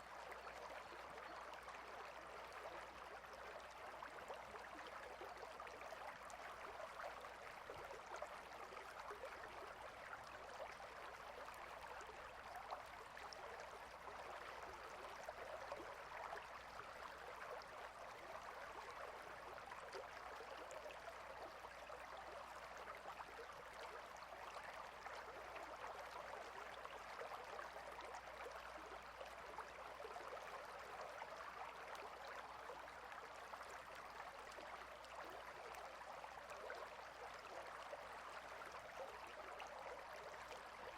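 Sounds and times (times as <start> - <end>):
small stream babbling: 0.0 - 40.9.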